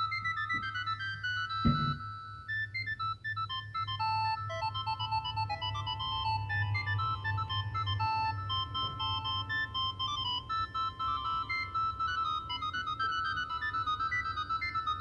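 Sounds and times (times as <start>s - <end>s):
phone ringtone melody: 0.0s - 2.5s, 4.0s - 15.0s.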